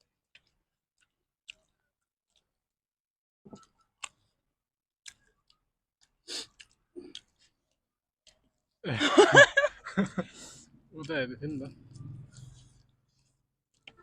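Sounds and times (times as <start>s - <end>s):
people eating clicks and smacks: 0.0s - 2.5s, 3.5s - 4.4s, 5.0s - 8.8s, 9.9s - 14.0s.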